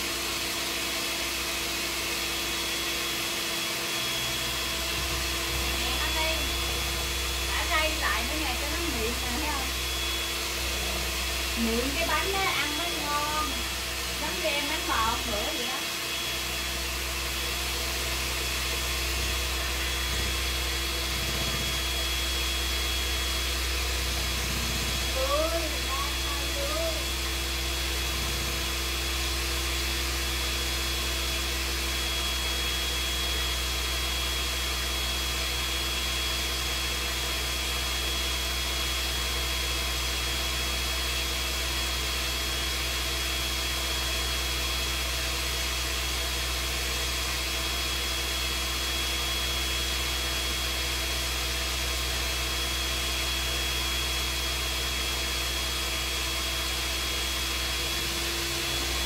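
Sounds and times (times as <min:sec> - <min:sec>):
electric mixer motor running: 0:00.0 - 0:59.0.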